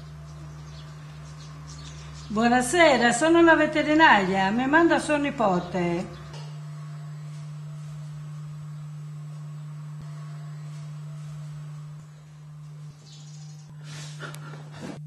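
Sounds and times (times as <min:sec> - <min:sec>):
low-pitched hum: 0:00.0 - 0:15.0.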